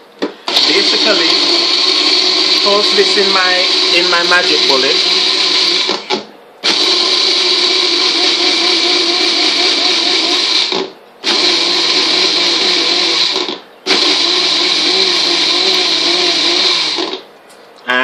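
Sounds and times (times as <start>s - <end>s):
blender motor running: 0.5s - 17.2s.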